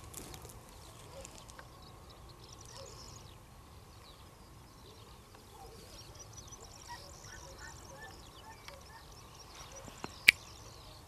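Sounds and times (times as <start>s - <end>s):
soft bird chirps: 0.7s - 11.0s.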